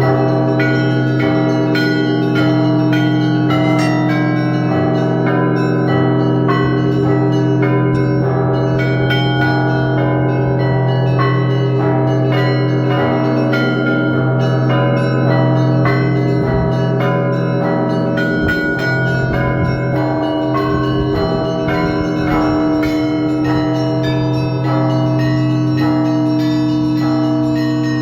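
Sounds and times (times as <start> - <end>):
large bell humming: 0.0 - 28.0
small bells ringing: 0.0 - 28.0.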